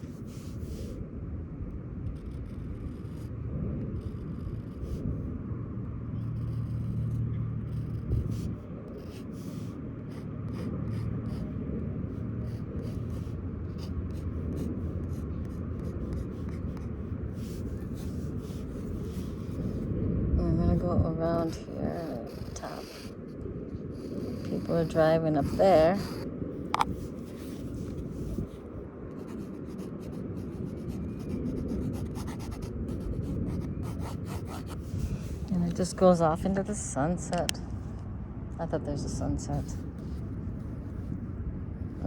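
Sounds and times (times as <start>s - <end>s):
pen scratching on paper: 0.0s - 1.0s, 2.1s - 5.2s, 6.1s - 19.9s, 20.7s - 36.6s
distant traffic: 0.0s - 42.0s
wind rumble: 0.0s - 42.0s.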